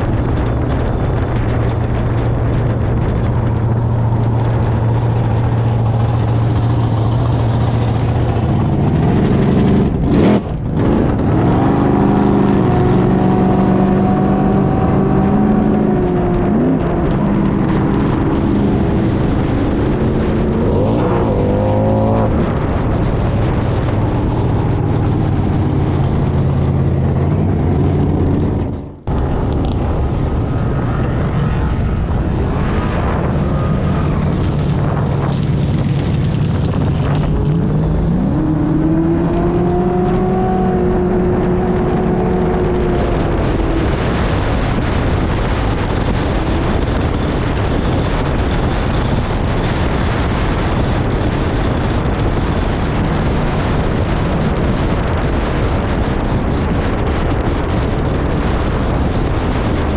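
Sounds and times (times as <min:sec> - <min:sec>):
truck engine revving hard: 0:00.0 - 0:29.2, 0:32.1 - 0:59.9.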